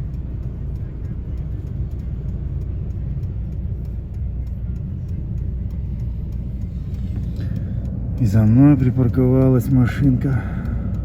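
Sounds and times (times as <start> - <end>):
car engine idling: 0.0 - 11.0
wind buffeting car: 0.0 - 11.0.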